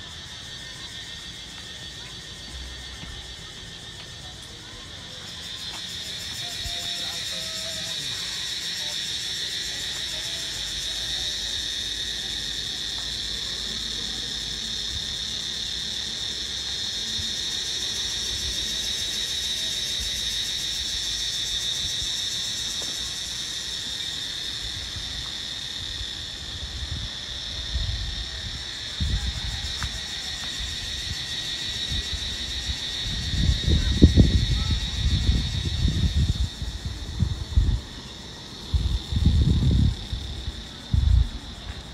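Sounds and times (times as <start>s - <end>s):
insects chorus drone: 0.0s - 41.9s.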